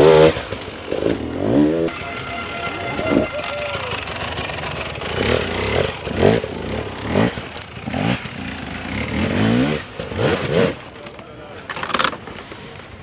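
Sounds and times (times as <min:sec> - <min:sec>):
dirt bike engine revving: 0:00.0 - 0:11.2.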